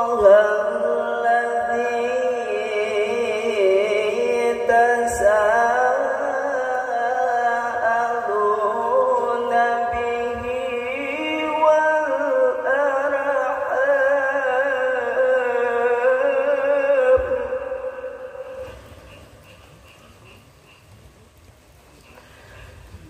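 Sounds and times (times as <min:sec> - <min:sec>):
man chanting melodic recitation: 0:00.0 - 0:19.4.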